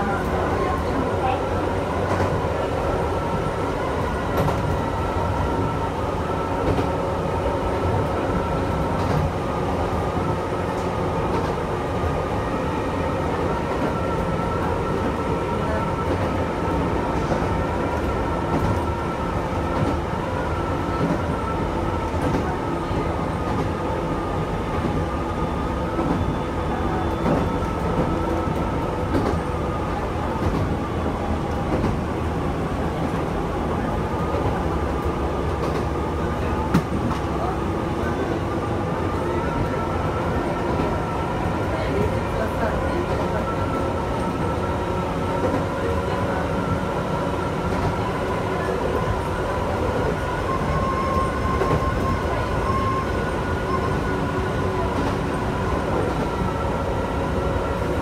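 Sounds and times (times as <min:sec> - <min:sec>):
electric train whine: 0:00.0 - 0:58.0
train wheels rumbling on rail: 0:00.0 - 0:58.0.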